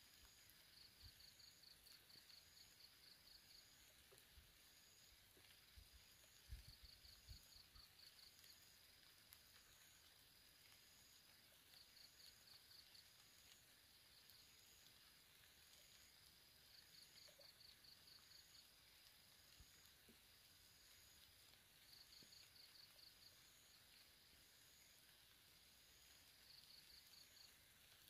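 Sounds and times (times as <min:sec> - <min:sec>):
insect chirping trill: 0:00.0 - 0:28.0.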